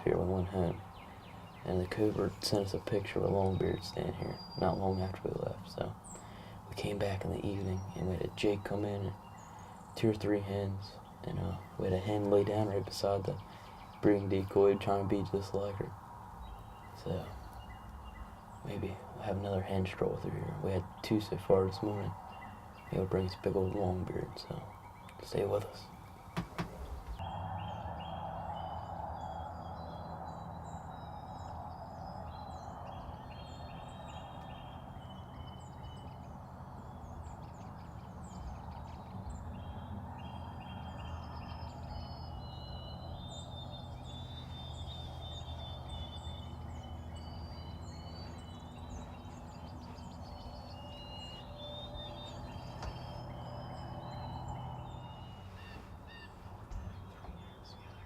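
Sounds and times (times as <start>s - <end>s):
songbirds chirping and whistling: 0.0s - 58.0s
steady low hum: 0.0s - 58.0s.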